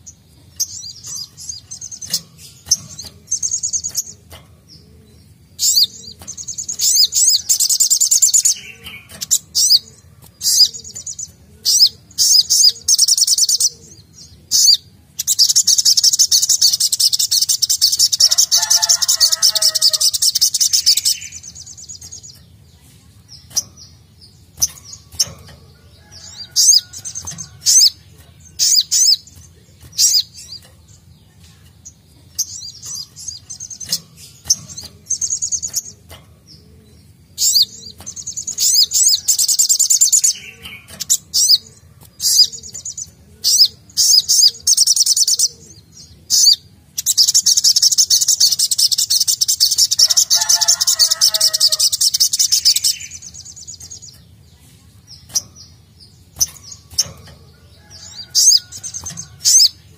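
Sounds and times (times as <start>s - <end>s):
sunbird chirping and trilling: 0.0s - 59.9s.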